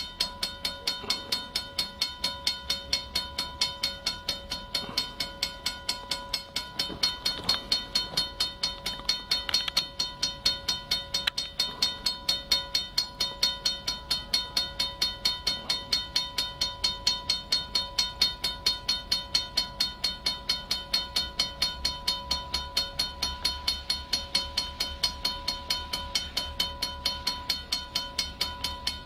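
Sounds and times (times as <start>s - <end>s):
railroad crossing bell ringing: 0.0s - 29.0s.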